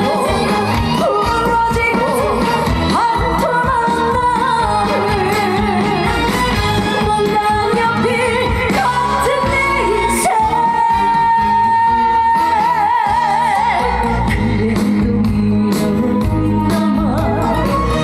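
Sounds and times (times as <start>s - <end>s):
musical accompaniment: 0.0s - 18.0s
woman singing: 0.0s - 18.0s.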